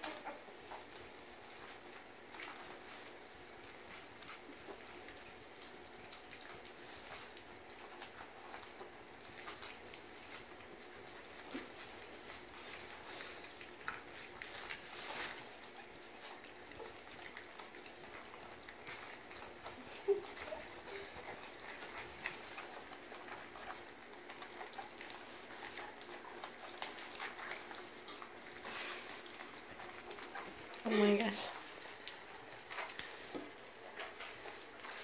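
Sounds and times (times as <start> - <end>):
puppies lapping from a metal bowl: 0.0 - 35.0.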